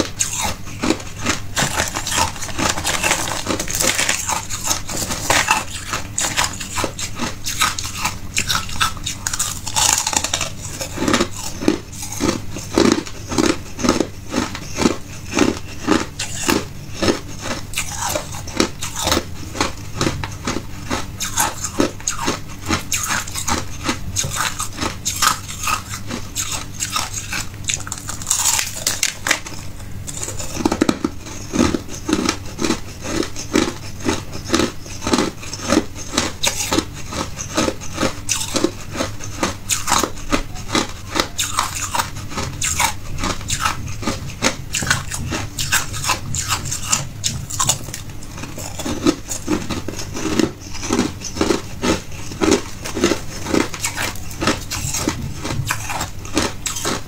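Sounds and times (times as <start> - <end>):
person crunching ice: 0.0 - 57.0.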